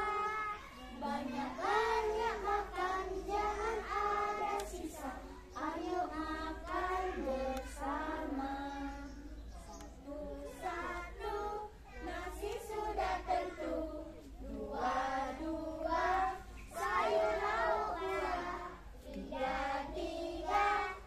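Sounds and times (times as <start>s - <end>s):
children singing in unison: 0.0s - 21.0s.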